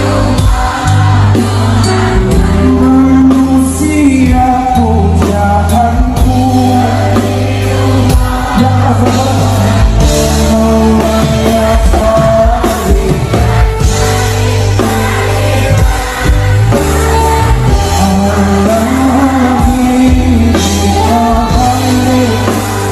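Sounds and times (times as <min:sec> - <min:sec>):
song with singing and drum beat: 0:00.0 - 0:22.9.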